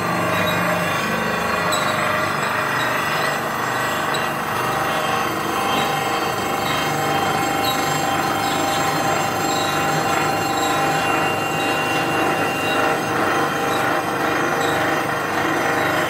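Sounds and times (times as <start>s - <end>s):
grinding wheel on steel blade: 0.0s - 16.0s.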